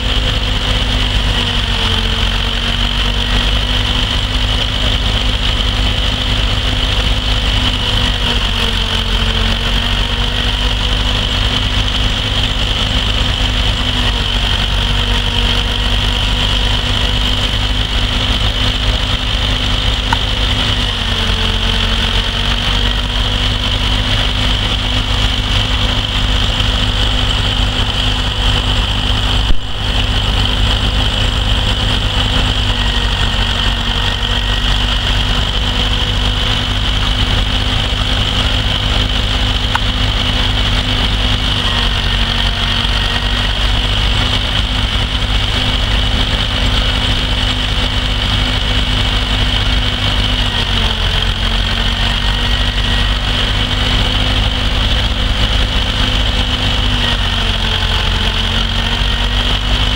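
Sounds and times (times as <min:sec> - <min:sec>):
threshing machine working: 0:00.0 - 0:59.9
tractor engine running: 0:00.0 - 0:59.9.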